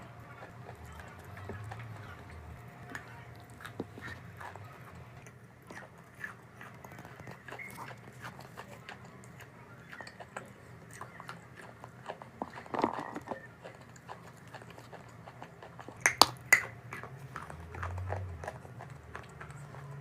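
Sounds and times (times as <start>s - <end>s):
chalk being chewed: 0.1s - 20.0s.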